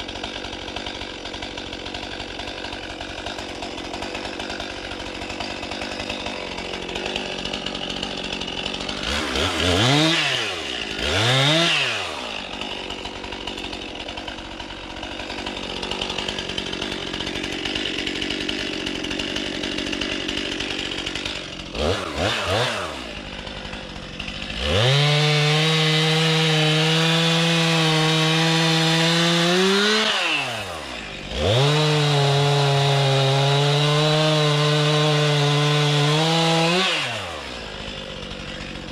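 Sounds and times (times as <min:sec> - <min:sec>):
chainsaw cutting wood: 0:00.0 - 0:38.9
chainsaw revving: 0:00.0 - 0:38.9.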